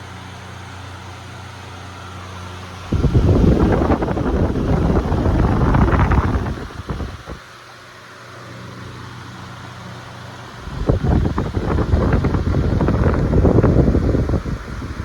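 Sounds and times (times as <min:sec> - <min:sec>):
fan air buffeting microphone: 0:00.0 - 0:15.0
low fan motor hum: 0:00.0 - 0:15.0.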